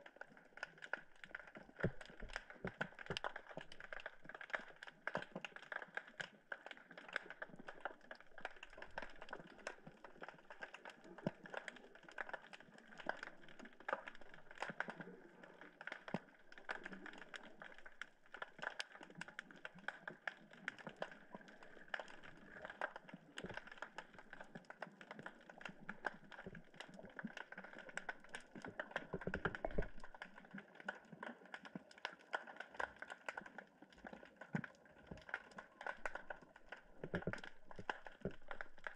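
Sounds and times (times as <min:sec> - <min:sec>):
underwater clicking and crackling: 0:00.0 - 0:38.9.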